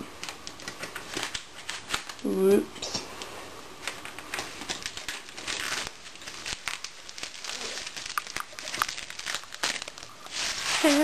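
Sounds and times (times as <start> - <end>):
packing wrap crinkling: 0.0 - 11.0.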